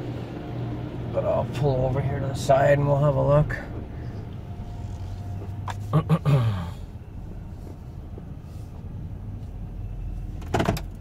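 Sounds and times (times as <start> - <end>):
van engine humming: 0.0 - 11.0.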